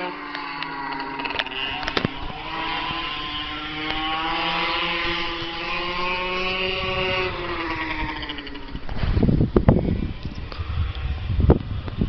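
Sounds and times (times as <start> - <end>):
minibike engine revving high: 0.0 - 12.0.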